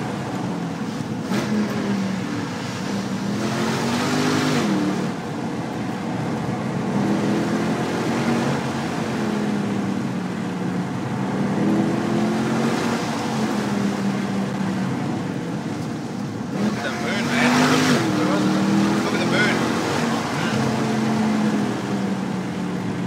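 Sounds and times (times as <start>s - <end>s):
car engine revving: 0.0s - 23.0s
road and tyre noise: 0.0s - 23.0s.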